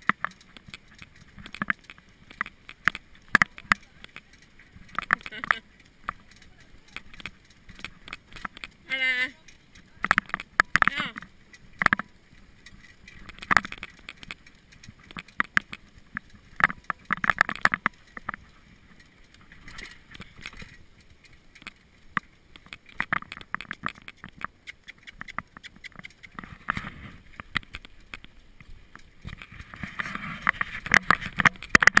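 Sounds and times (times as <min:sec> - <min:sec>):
wheels on gravel: 0:00.0 - 0:32.0.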